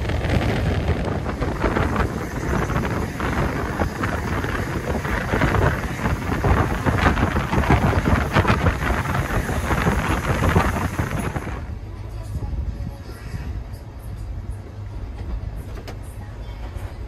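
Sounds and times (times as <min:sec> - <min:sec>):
wind rushing on microphone: 0:00.0 - 0:14.4.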